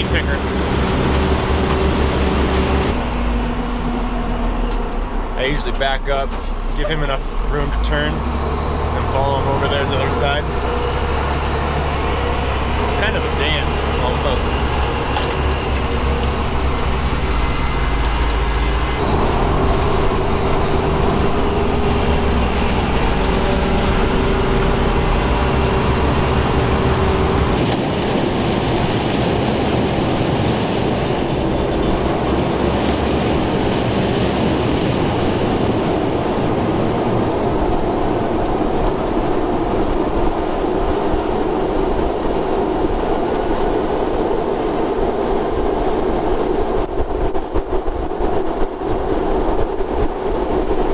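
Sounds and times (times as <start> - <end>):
truck engine drone: 0.0 - 50.9.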